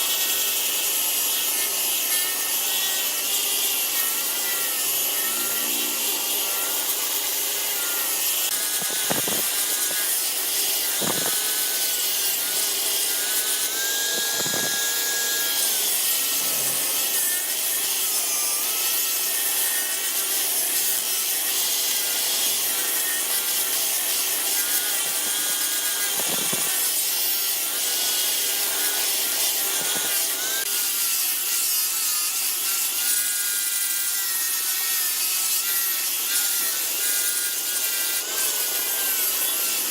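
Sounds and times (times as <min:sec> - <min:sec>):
wood lathe cutting wood: 0:00.0 - 0:39.9.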